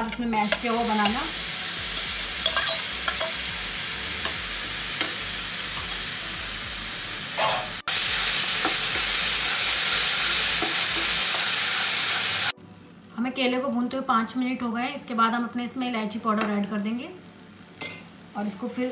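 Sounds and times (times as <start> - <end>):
banana sizzling in hot fat: 0.0 - 18.9.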